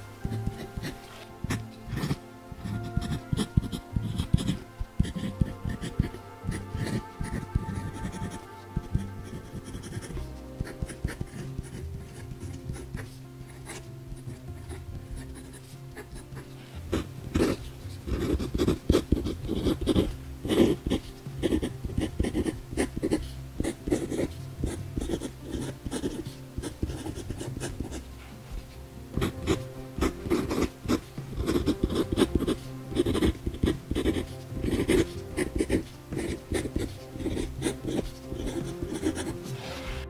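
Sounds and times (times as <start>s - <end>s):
fountain pen scratching paper: 0.3s - 39.8s.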